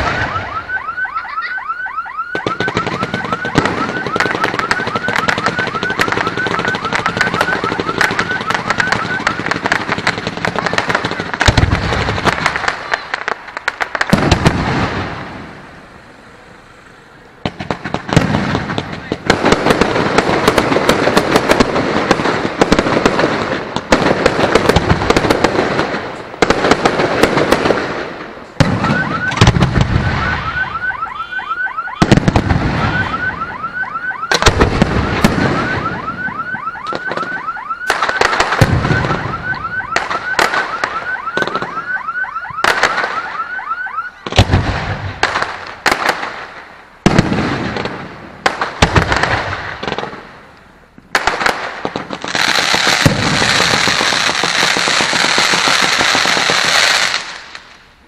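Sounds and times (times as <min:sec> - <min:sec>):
fireworks bursting with bangs: 0:00.0 - 0:01.6, 0:02.2 - 0:16.1, 0:16.7 - 0:43.6, 0:44.2 - 0:58.0
fireworks crackling: 0:00.0 - 0:43.6, 0:44.2 - 0:58.0.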